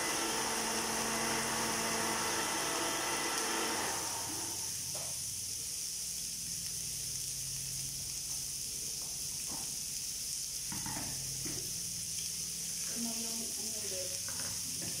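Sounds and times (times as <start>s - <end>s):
skewers sizzling in grill pan: 0.0s - 15.0s.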